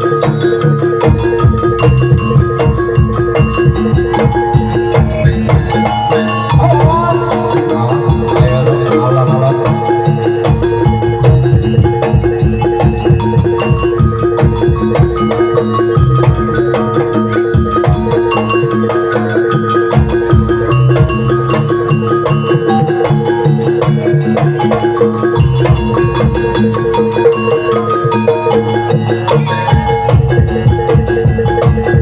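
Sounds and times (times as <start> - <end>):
hand drums beating: 0.0 - 32.0
ringing metal mallet instruments: 0.0 - 32.0
wavering melody line: 0.0 - 32.0.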